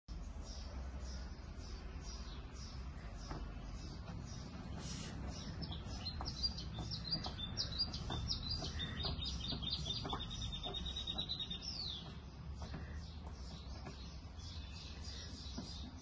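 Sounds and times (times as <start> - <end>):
small bird chirping and trilling: 0.3 - 16.0.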